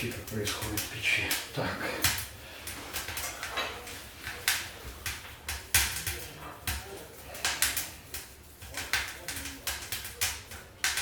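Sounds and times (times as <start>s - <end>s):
kindling crackling with sharp pops: 0.0s - 11.0s.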